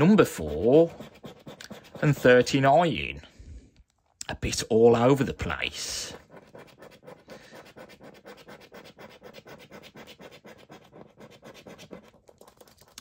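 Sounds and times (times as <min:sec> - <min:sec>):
scratchcard scraping: 0:00.0 - 0:02.9, 0:05.4 - 0:13.0.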